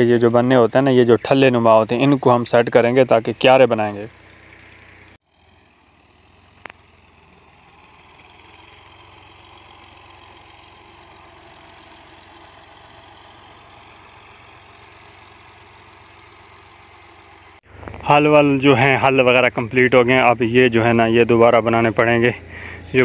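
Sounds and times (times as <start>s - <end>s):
faint tractor engine running: 0.0s - 23.0s.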